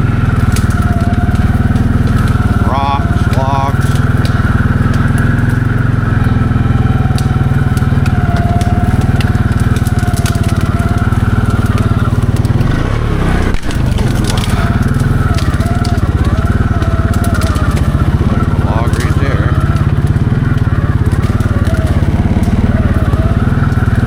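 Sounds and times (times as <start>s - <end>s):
atv engine running: 0.0s - 24.0s
sticks cracking under tires: 0.0s - 24.0s.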